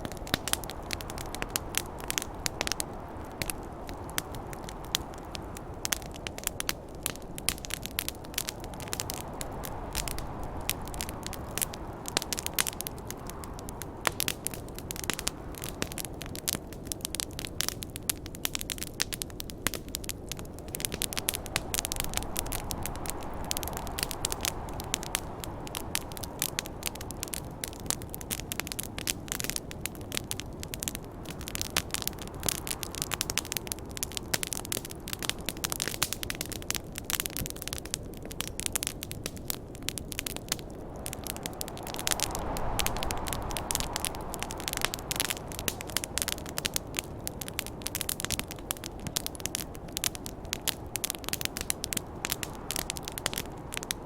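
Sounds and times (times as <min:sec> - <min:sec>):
snowstorm wind: 0:00.0 - 0:54.0
wood fire crackling and popping: 0:00.0 - 0:54.0.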